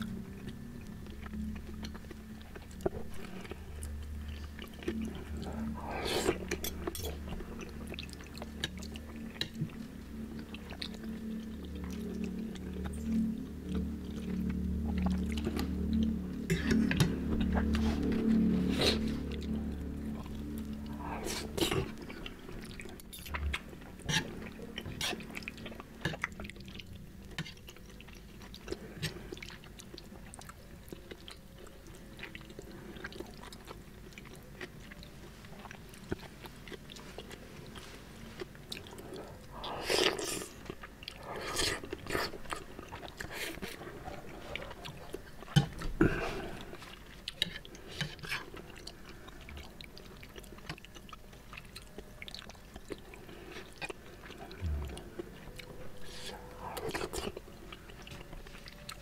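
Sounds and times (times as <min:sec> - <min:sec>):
close chewing and mouth sounds: 0:00.0 - 0:59.0.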